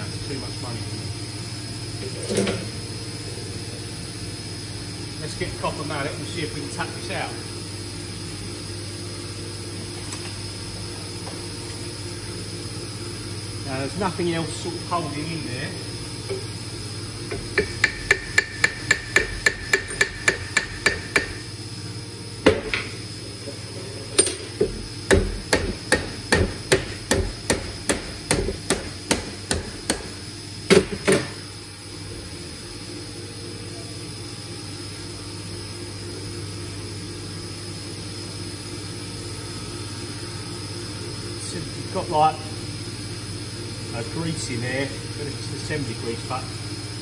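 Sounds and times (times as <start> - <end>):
steady background hum: 0.0 - 47.0.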